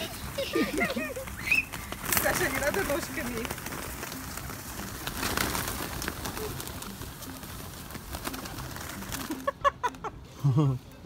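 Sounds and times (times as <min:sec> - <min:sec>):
pigeons scuffling: 0:00.0 - 0:10.1
pigeon wingbeats: 0:00.0 - 0:10.2
pigeons cooing: 0:00.0 - 0:11.0.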